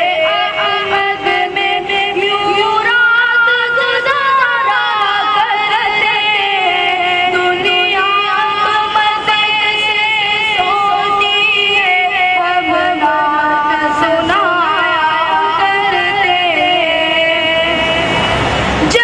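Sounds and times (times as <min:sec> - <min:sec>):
boy singing devotional song: 0:00.0 - 0:18.1.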